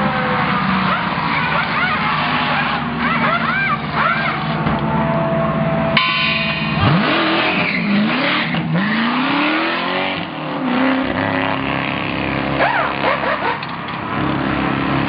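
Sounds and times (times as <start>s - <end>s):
race car engine accelerating: 0.0s - 15.0s.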